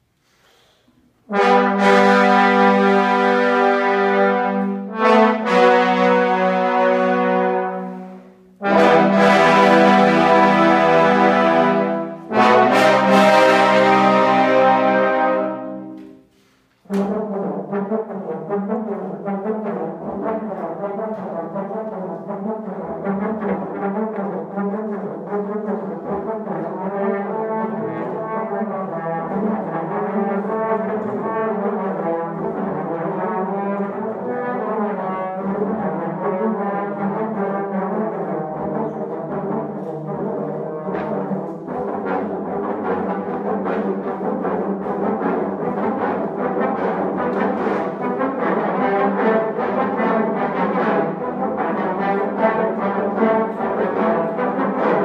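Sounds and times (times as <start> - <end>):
trombone choir playing: 1.1 - 55.0.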